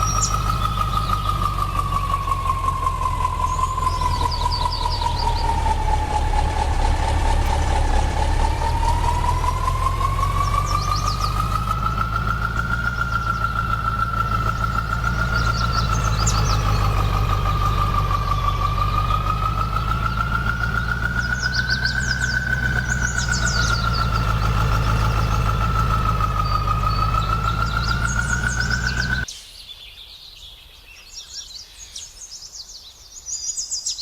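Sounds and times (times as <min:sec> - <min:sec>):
engine idling: 0:00.0 - 0:29.3
whining tone: 0:00.0 - 0:29.3.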